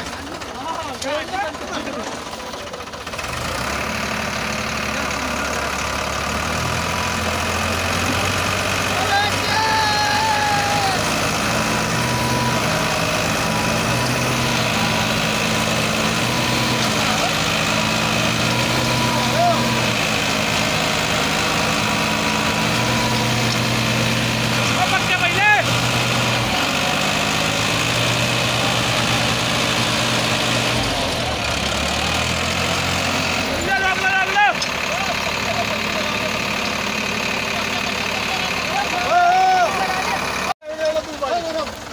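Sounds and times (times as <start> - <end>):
tractor diesel engines under load: 0.0 - 41.9.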